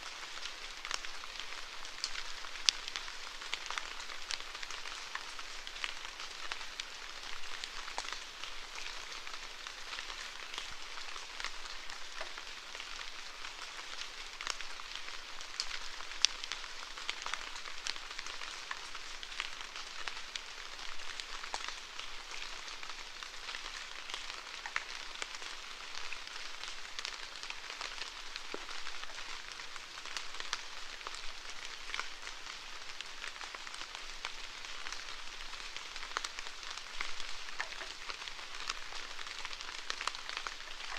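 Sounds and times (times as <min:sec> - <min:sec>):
sharp raindrop: 0:00.0 - 0:40.9
steady rainfall: 0:00.0 - 0:40.9.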